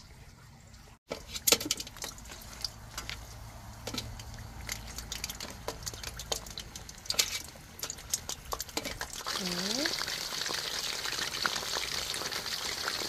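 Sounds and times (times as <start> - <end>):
hot oil crackling in a wok: 1.2 - 13.0.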